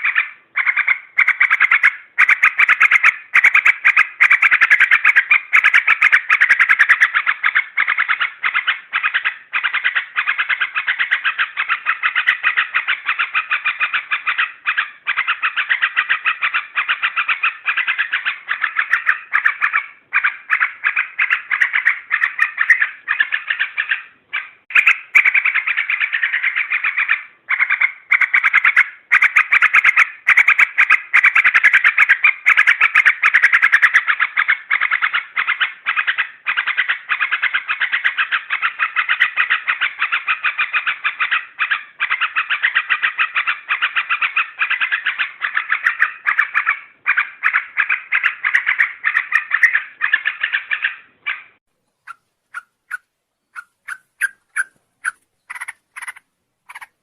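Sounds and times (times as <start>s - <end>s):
bulbul song chatter: 0.0s - 57.0s.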